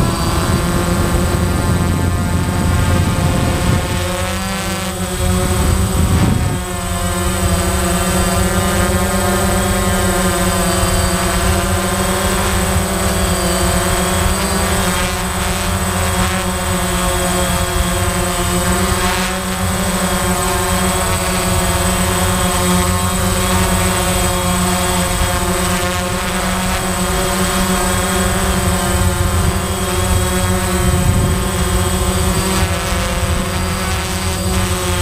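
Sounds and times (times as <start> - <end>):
drone propellers whining: 0.0 - 35.0
low rush of wind: 0.0 - 35.0.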